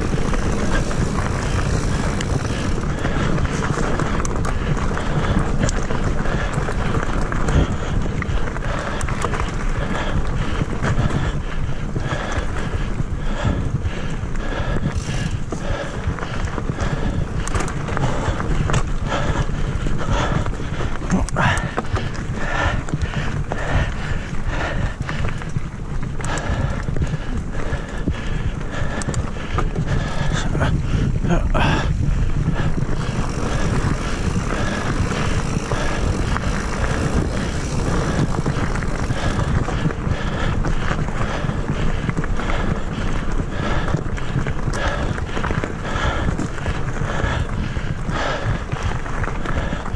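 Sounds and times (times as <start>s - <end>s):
wind on microphone: 0.0s - 48.8s
bike clicking and rattling: 0.0s - 49.9s
tyres rumbling on trail: 0.0s - 49.9s.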